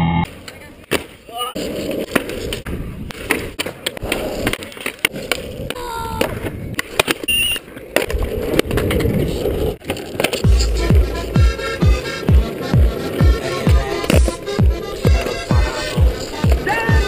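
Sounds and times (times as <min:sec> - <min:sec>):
skateboard clacks: 0:00.3 - 0:17.0
skateboard wheels rolling on asphalt: 0:00.3 - 0:17.0.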